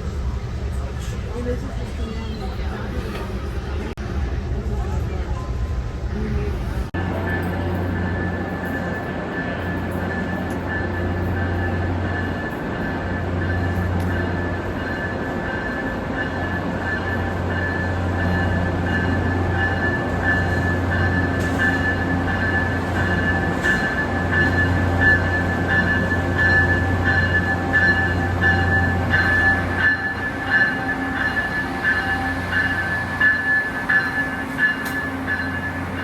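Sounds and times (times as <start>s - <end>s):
train running: 0.0s - 36.0s.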